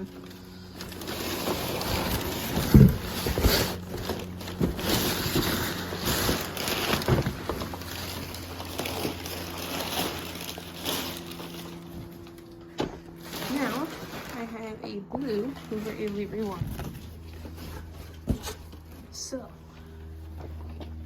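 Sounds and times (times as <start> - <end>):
packaging rustling and scraping: 0.0 - 19.1
steady low hum: 0.0 - 21.0.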